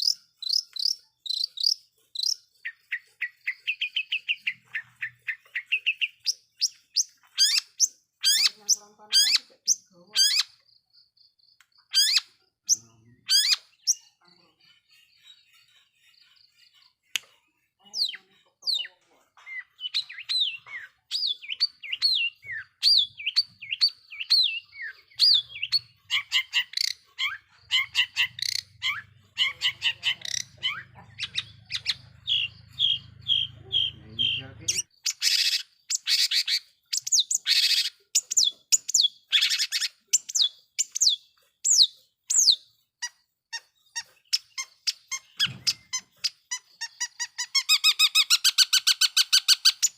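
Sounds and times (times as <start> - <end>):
bird singing fast chirps: 0.0 - 49.9.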